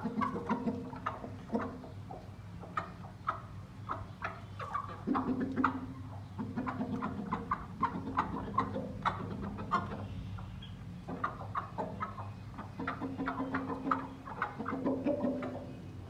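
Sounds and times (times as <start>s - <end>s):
chickens clucking: 0.0s - 16.0s
steady low hum: 0.0s - 16.0s.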